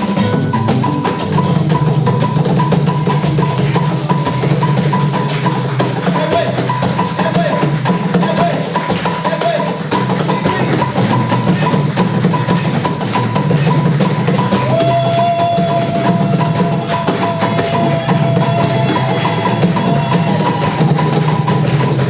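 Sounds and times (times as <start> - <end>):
percussion-led music: 0.0 - 22.0.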